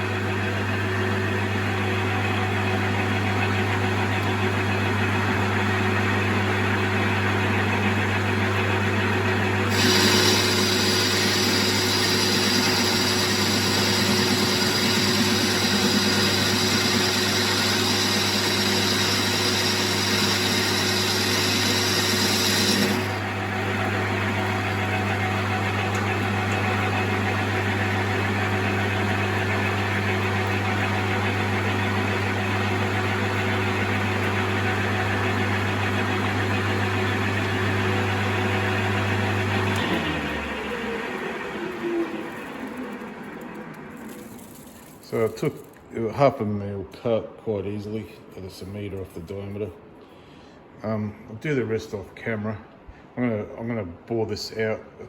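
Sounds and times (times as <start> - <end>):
lathe motor hum: 0.0 - 44.4.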